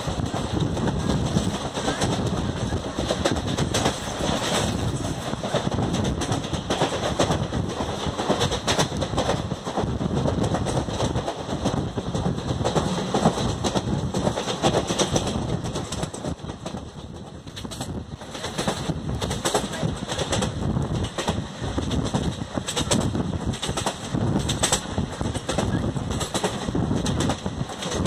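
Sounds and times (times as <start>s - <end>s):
train running noise: 0.0s - 28.0s
train wheels clattering on track: 0.0s - 28.0s.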